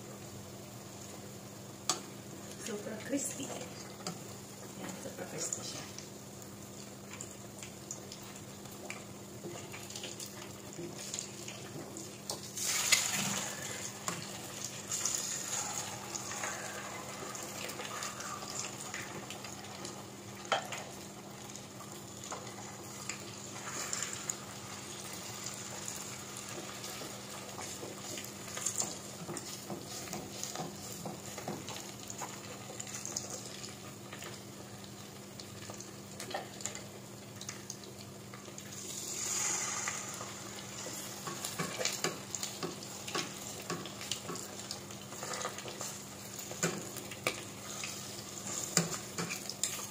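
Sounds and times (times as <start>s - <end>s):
food deep-frying in oil: 0.0s - 49.9s.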